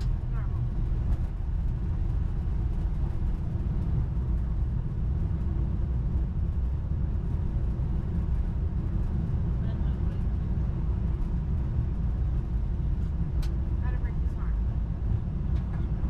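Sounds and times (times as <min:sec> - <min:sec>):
airliner rumble on runway: 0:00.0 - 0:16.0.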